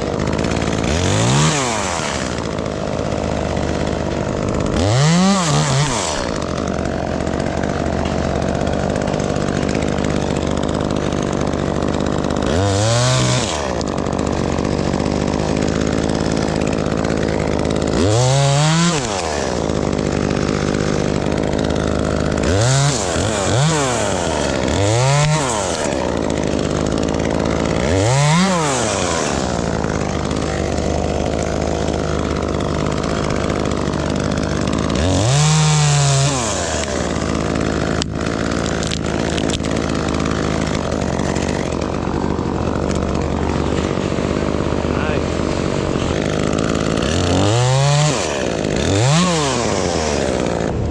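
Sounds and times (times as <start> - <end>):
chainsaw idling and revving: 0.0 - 50.9.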